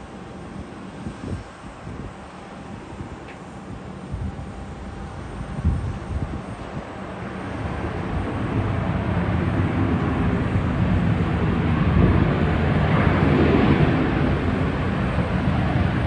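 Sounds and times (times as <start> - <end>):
distant jet engine rumble: 0.0 - 16.0.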